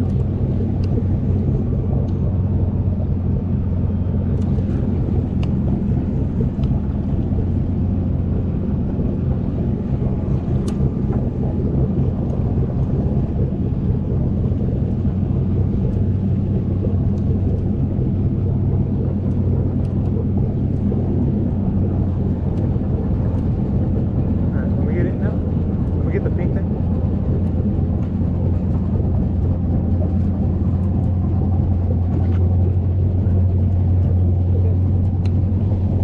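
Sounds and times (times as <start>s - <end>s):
boat motor humming: 0.0s - 36.0s.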